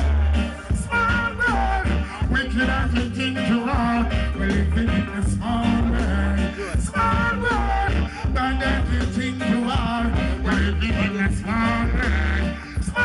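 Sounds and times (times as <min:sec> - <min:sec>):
heavy bass line: 0:00.0 - 0:13.0
person singing: 0:00.0 - 0:13.0
reggae band playing: 0:00.0 - 0:13.0.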